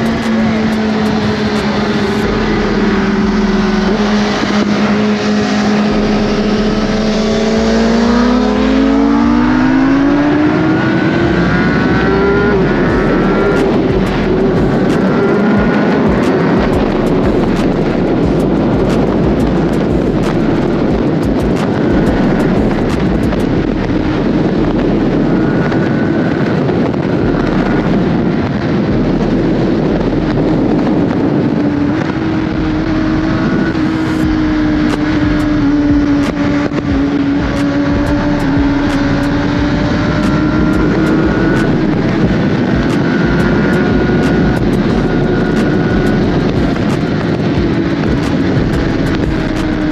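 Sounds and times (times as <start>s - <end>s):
motorcycle engine cruising: 0.0s - 49.9s
wind rush: 0.0s - 49.9s.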